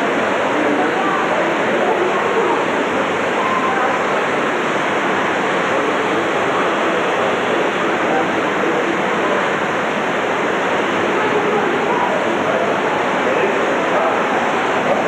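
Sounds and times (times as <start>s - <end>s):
faint murmur of voices: 0.0s - 15.0s
steady rushing noise: 0.0s - 15.0s.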